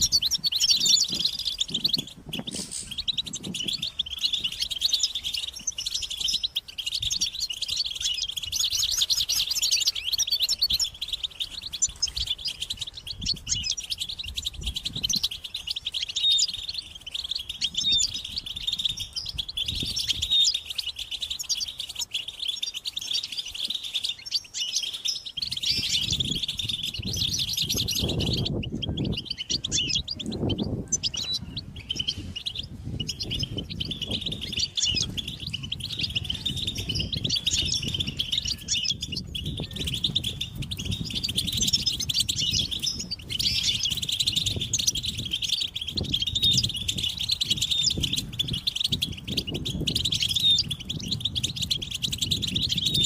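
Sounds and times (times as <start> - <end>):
finches twittering and trilling: 0.0 - 53.0.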